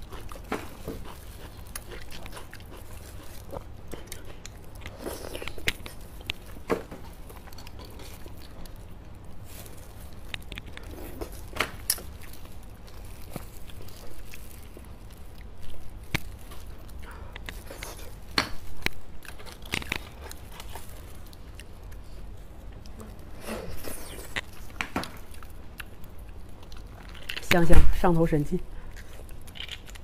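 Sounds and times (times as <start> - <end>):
wet chewing and smacking: 0.0 - 27.5, 28.8 - 30.0.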